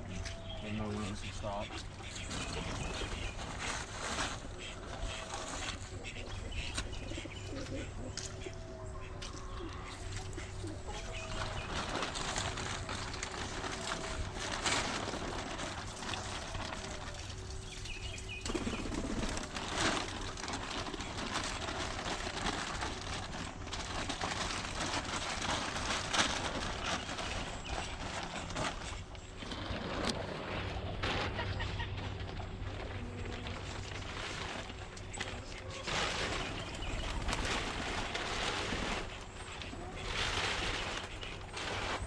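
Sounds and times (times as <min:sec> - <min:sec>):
rustling scraping noise: 0:00.0 - 0:08.5, 0:09.2 - 0:42.0
birds cooing: 0:00.0 - 0:42.0.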